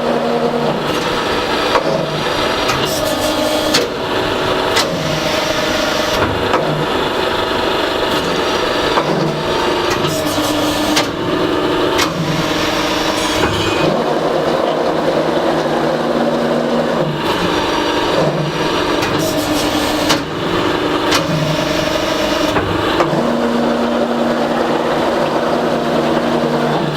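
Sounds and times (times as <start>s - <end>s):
press brake machine running: 0.0s - 26.9s.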